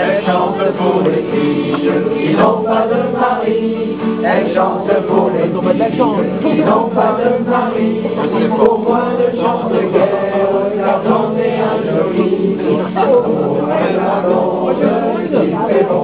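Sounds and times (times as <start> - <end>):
group singing: 0.0 - 16.0.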